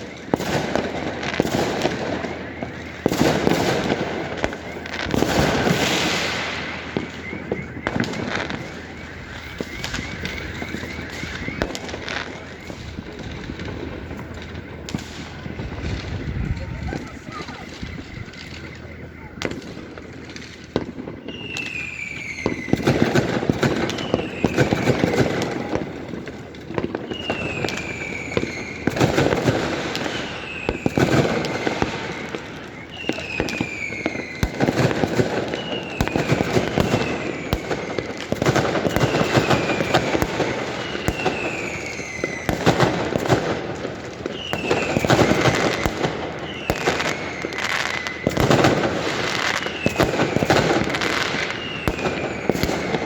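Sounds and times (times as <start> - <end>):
crackling firework pops: 0.0 - 53.0
firework bangs: 0.0 - 53.0
whistling firework shells: 0.0 - 53.0.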